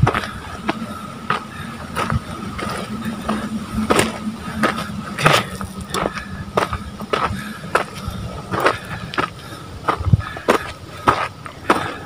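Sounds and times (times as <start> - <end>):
faint steady hum: 0.0 - 12.0
footsteps on gravel: 0.0 - 12.0.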